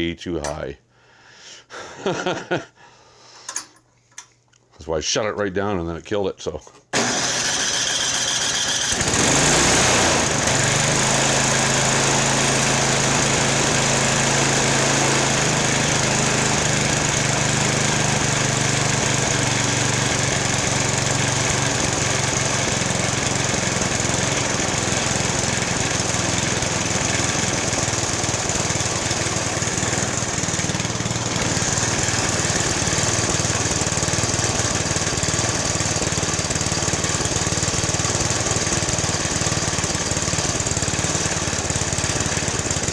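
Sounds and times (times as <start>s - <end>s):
small engine running at high speed: 7.0s - 42.9s.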